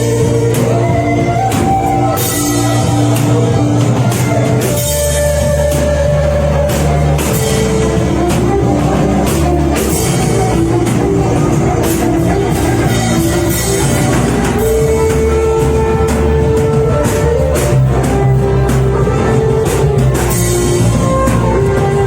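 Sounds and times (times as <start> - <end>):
band playing instrumental music: 0.0 - 22.0
drum kit steady beat: 0.0 - 22.0.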